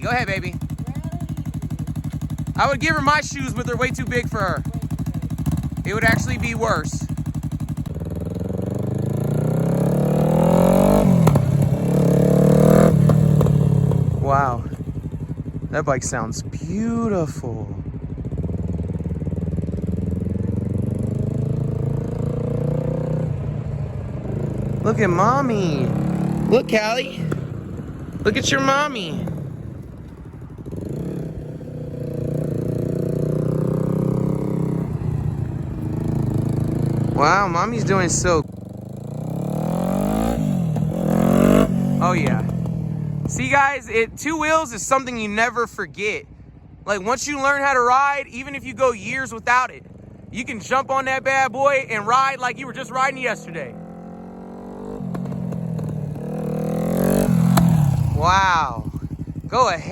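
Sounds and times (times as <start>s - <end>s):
motorcycle engine revving: 0.0s - 44.1s, 48.4s - 59.9s.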